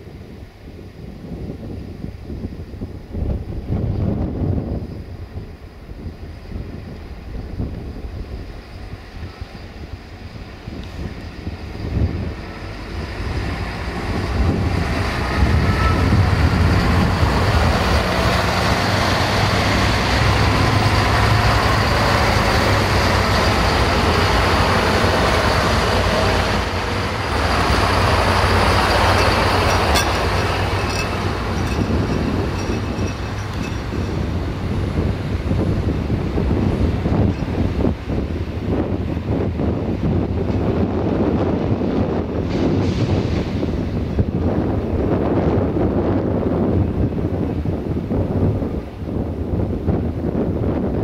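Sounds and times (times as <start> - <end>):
diesel train engines: 0.0 - 51.0
wheels rumbling on rail: 0.0 - 51.0.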